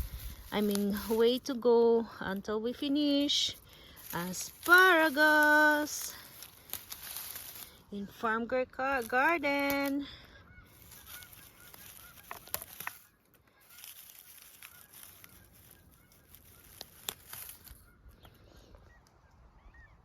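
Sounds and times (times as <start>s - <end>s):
honking bird calls: 3.3s - 20.0s.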